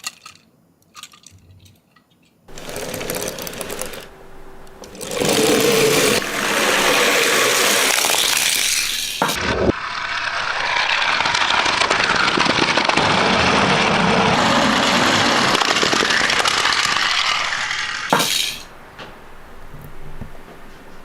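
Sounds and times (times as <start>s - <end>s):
toy cars clattering: 0.0s - 4.1s, 4.8s - 9.3s, 9.9s - 18.7s.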